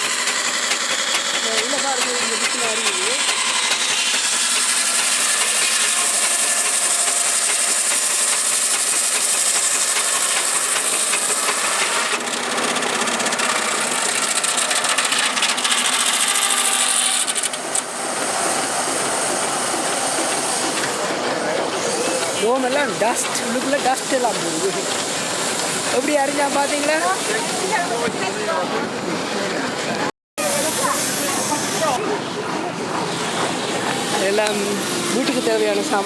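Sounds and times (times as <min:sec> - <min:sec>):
power saw cutting timber: 0:00.0 - 0:36.0.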